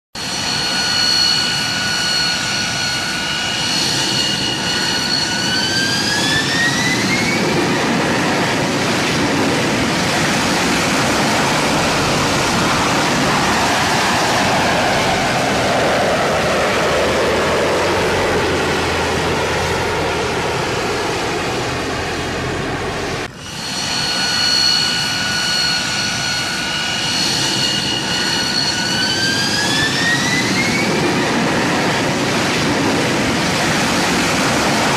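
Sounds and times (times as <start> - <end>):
jet thrust rushing: 0.2 - 34.9
jet turbine engine whine: 0.2 - 34.9.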